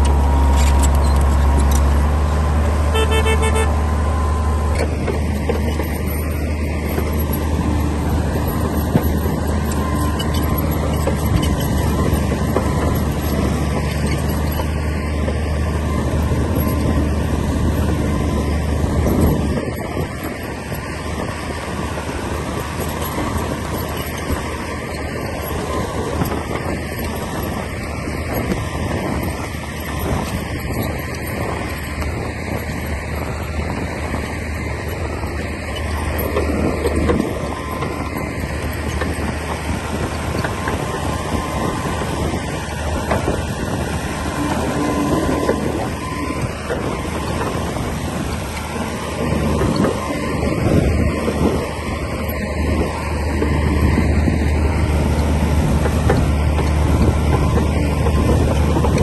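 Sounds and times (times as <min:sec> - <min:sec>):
bulldozer diesel engine droning: 0:00.0 - 0:59.0
engine clatter: 0:00.0 - 0:59.0.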